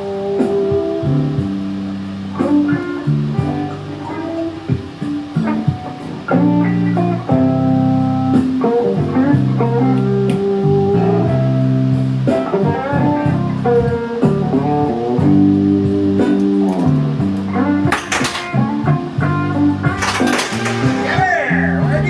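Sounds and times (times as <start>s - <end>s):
bass line: 0.0s - 22.0s
blues guitar: 0.0s - 22.0s.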